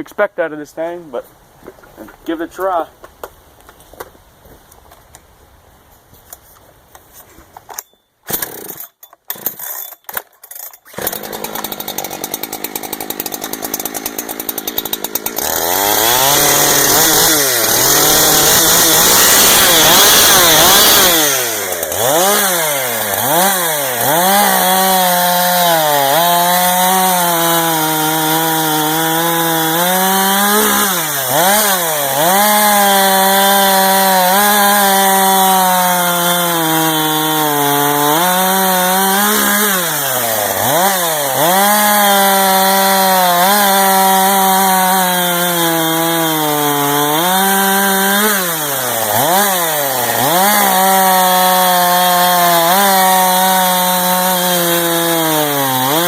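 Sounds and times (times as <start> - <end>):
chainsaw cutting wood: 7.7 - 56.0.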